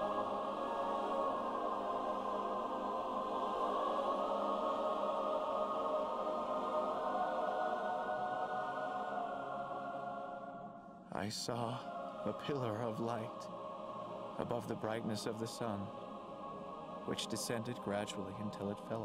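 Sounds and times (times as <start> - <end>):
wordless choir holding chords: 0.0 - 19.0.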